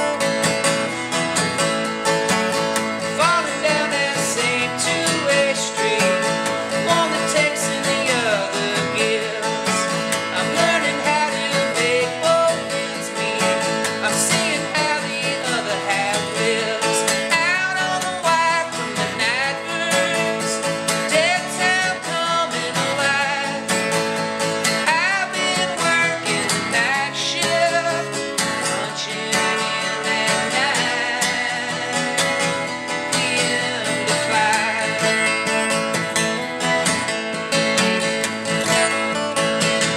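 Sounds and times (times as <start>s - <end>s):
man singing: 0.0s - 1.0s, 3.0s - 39.9s
acoustic guitar strumming: 0.0s - 39.9s.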